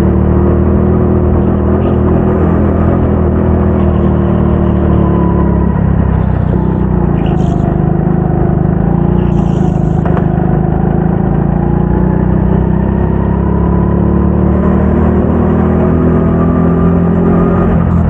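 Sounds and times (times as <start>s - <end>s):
go-kart engine running: 0.0s - 18.0s.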